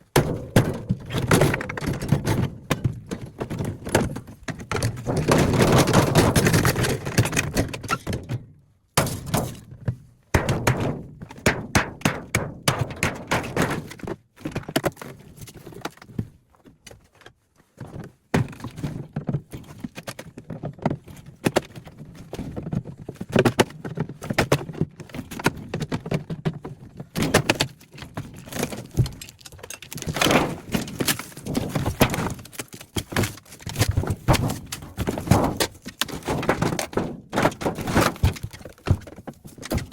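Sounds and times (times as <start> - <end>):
metal thunks and clatter: 0.0 - 16.2, 18.3 - 39.9.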